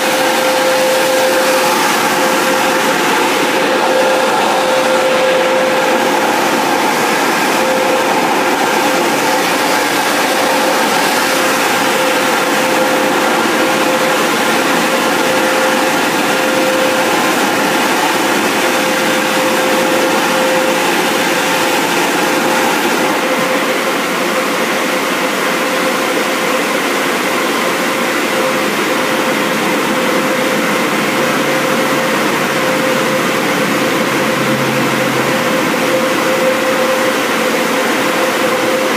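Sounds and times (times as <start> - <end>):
air dryer blowing: 0.0 - 38.9
fan whine: 0.0 - 38.9.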